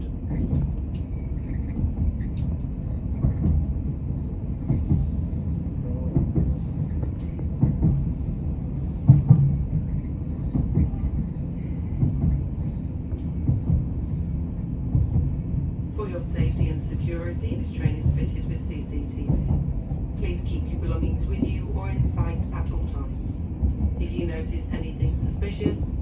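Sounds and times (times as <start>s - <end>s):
train low rumble: 0.0s - 26.0s.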